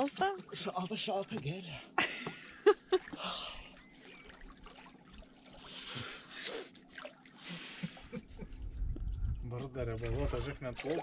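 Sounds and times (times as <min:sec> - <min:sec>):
water splashing: 0:00.0 - 0:01.6, 0:02.9 - 0:11.0.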